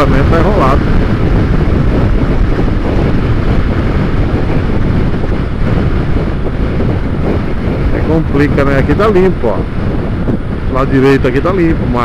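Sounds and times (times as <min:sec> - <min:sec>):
motorcycle engine: 0:00.0 - 0:12.0
wind rush on microphone: 0:00.0 - 0:12.0.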